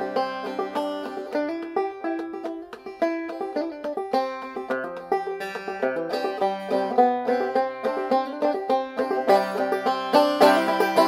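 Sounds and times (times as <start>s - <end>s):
banjo plucked notes: 0.0s - 11.0s.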